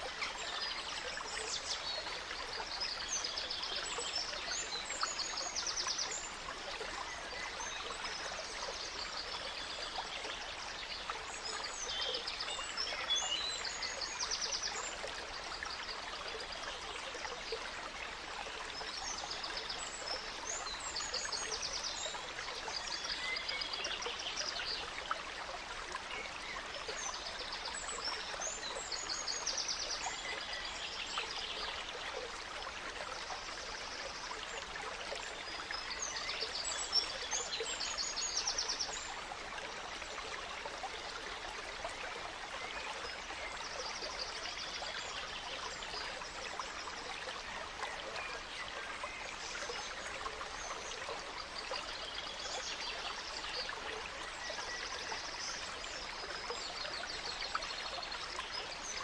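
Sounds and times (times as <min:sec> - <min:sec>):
gentle stream running: 0:00.0 - 0:59.0.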